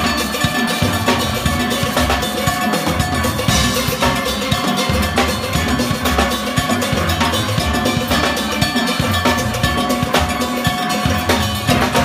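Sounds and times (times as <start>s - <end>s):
clanking metal percussion: 0.0s - 12.0s
drum kit: 0.0s - 12.0s
steelpan notes: 0.0s - 12.0s.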